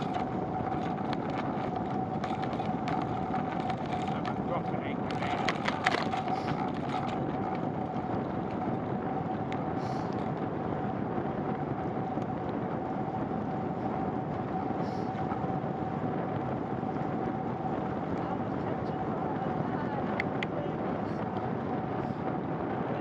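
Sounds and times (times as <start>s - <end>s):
bicycle tyre noise: 0.0s - 23.0s
wind: 0.0s - 23.0s.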